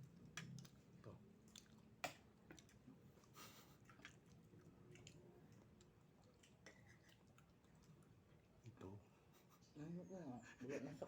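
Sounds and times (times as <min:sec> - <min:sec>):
quiet chewing: 0:00.0 - 0:08.9.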